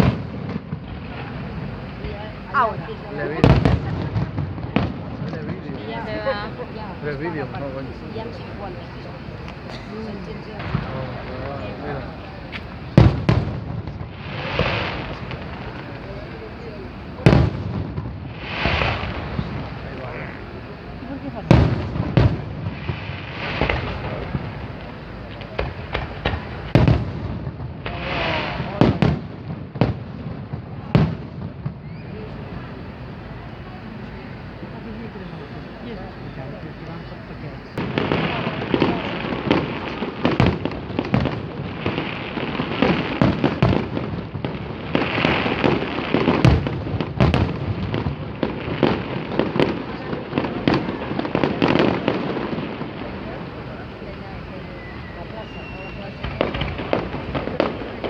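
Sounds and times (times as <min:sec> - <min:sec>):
fireworks banging: 0:00.0 - 0:58.0.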